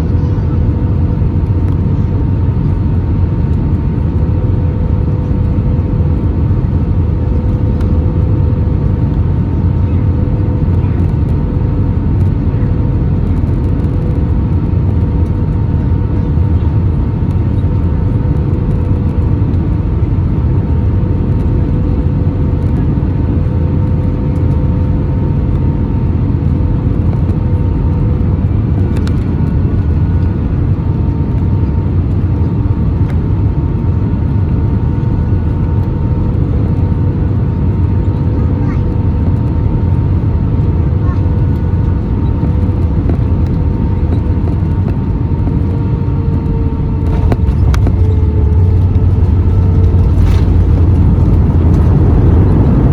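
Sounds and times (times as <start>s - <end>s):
aircraft cabin engine rumble: 0.0s - 52.9s
constant hum: 0.0s - 52.9s.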